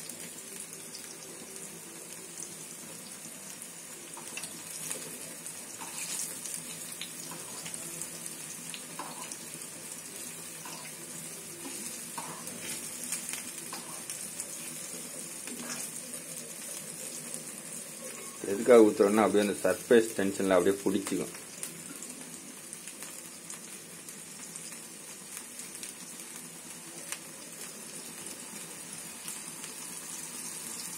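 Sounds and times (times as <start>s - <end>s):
fish sizzling in oil: 0.0s - 30.9s.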